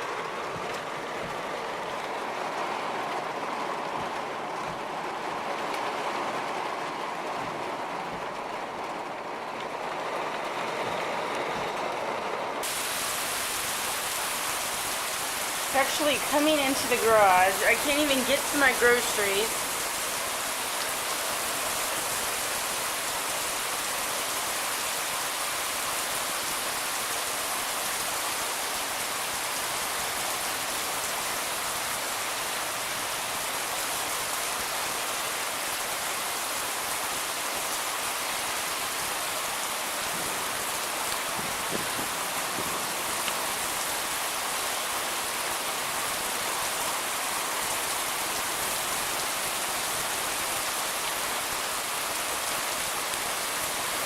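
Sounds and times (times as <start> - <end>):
heavy rain on hard surfaces: 0.0 - 54.0.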